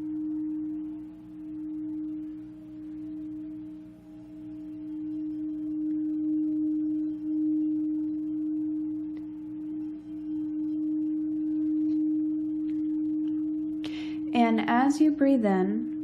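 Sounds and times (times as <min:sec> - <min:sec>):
singing bowl low tone: 0:00.0 - 0:16.0.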